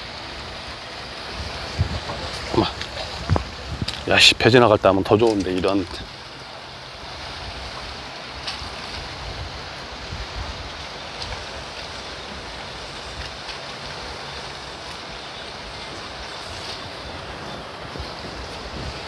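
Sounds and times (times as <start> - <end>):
wind noise on microphone: 0.0 - 5.0, 7.2 - 19.0
sea water washing around boat: 0.0 - 19.0.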